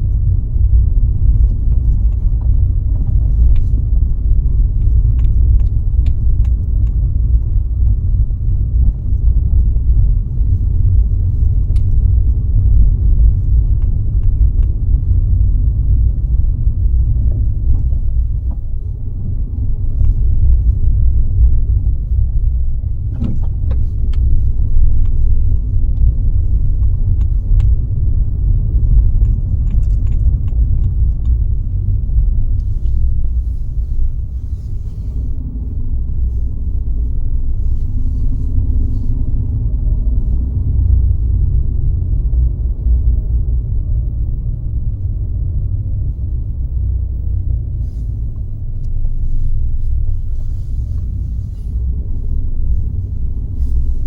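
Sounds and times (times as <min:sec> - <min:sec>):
light clicks and rattles: 0:00.0 - 0:46.4
road and engine rumble: 0:00.0 - 0:54.0.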